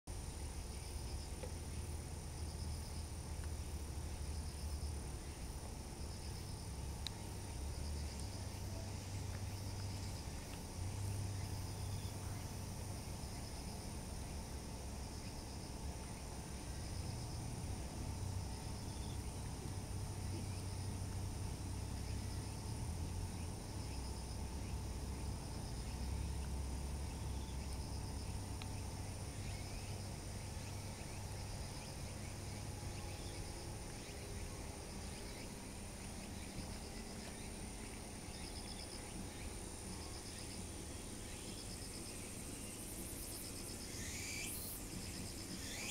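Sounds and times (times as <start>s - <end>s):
insect chirping: 0.1s - 45.9s.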